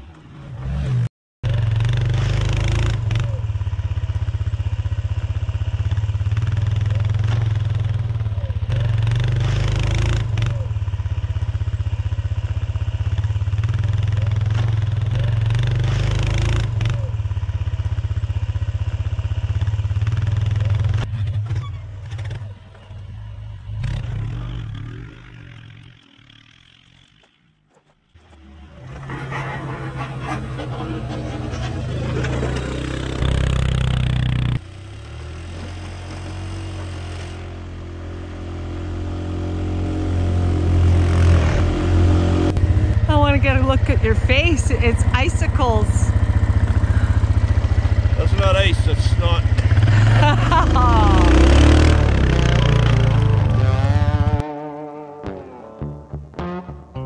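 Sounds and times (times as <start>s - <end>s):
atv engine under load: 1.5s - 54.5s.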